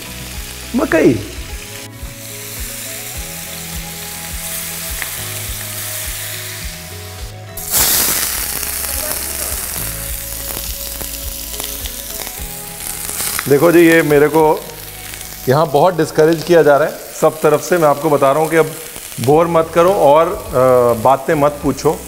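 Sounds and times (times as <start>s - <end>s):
oil sizzling in a pan: 0.0s - 22.0s
onions frying in oil: 0.0s - 22.0s
soft background music: 0.0s - 22.0s.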